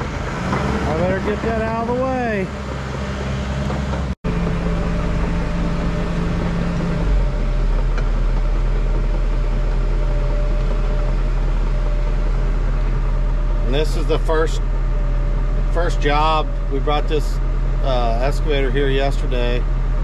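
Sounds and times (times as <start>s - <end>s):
excavator diesel engine humming: 0.0s - 20.0s.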